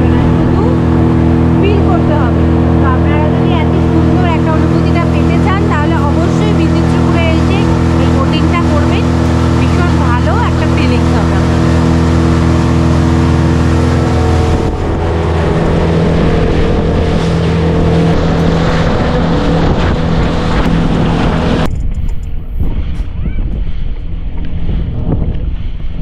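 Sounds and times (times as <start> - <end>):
speedboat engine running: 0.0 - 26.0
water splashing along hull: 0.0 - 26.0.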